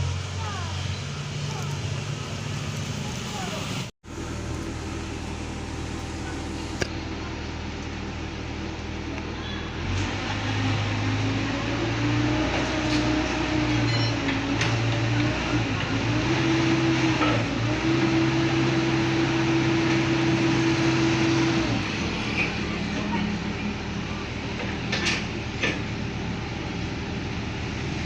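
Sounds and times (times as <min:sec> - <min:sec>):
heavy machine engine running: 0:00.0 - 0:28.0.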